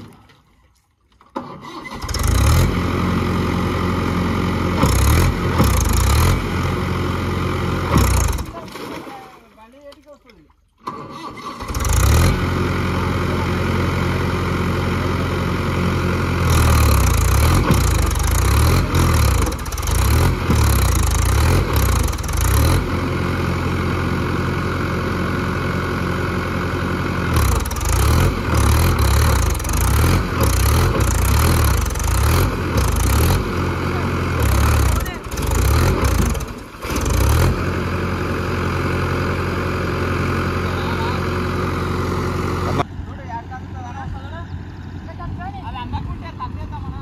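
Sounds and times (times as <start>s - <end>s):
tractor diesel engine running: 1.4s - 8.7s, 10.8s - 47.0s.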